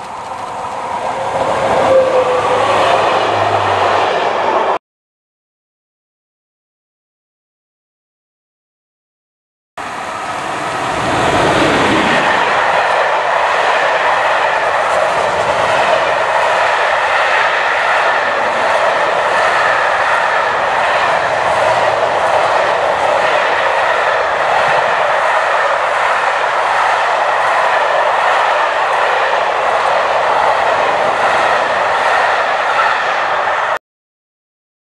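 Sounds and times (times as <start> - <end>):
train wheels on rail: 0.0 - 4.8, 9.8 - 33.8.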